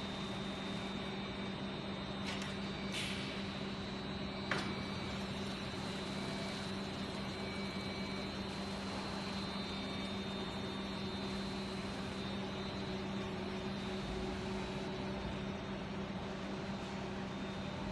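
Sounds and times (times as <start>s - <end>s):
machine hum: 0.0s - 17.6s
noisy factory background: 0.0s - 17.9s.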